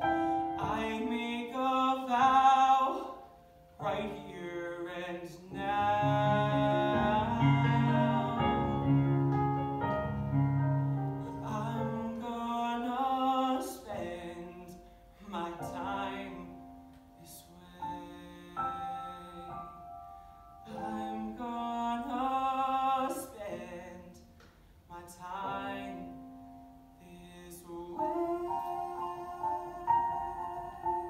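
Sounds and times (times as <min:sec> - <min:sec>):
man singing: 0:00.0 - 0:09.5, 0:11.1 - 0:19.8, 0:20.6 - 0:24.3, 0:24.9 - 0:26.2, 0:27.0 - 0:31.0
piano accompaniment: 0:00.0 - 0:31.0.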